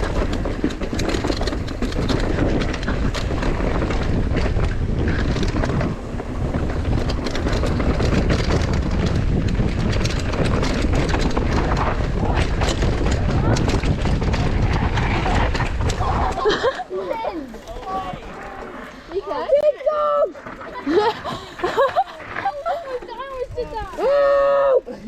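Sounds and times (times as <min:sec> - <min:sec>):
bike clattering over rough ground: 0:00.0 - 0:25.0
wind buffeting microphone: 0:00.0 - 0:25.0.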